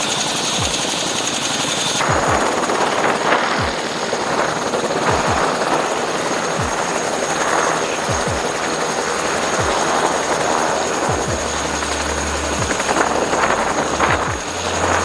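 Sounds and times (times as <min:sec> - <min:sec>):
high turbine whine: 0:00.0 - 0:15.0.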